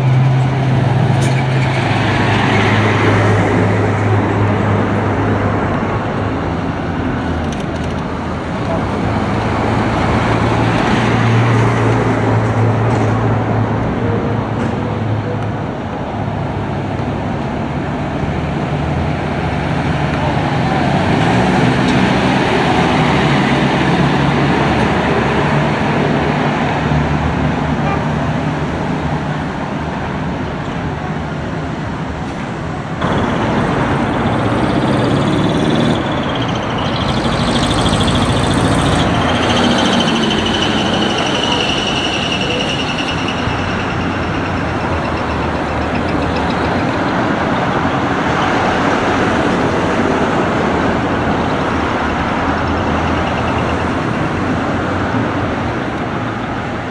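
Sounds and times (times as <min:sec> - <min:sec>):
truck diesel engines passing: 0:00.0 - 0:56.9.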